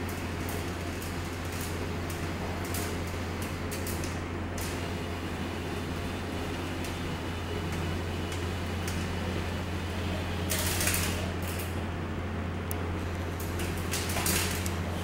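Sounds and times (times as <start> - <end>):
robot actuators humming: 0.0 - 15.0.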